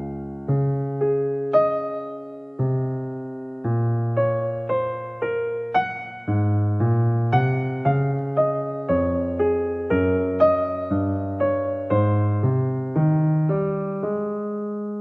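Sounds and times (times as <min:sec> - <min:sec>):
gentle electric piano chords: 0:00.0 - 0:15.0.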